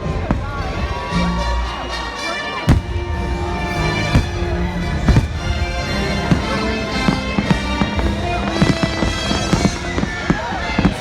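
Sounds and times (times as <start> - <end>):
firework bangs: 0.0 - 1.2, 2.6 - 11.0
loud music playing: 0.0 - 11.0.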